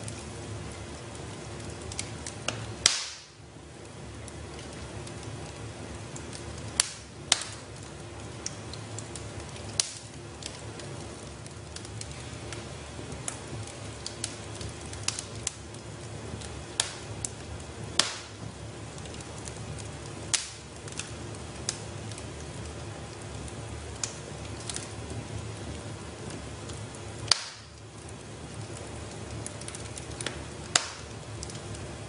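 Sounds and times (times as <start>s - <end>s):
burning logs popping and snapping: 0.0s - 32.0s
fire rumbling and hissing: 0.0s - 32.0s.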